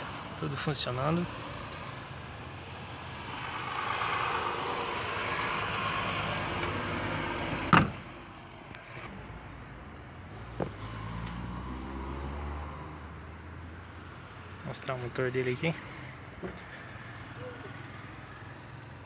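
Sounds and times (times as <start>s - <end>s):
vehicle noise: 0.0s - 19.0s.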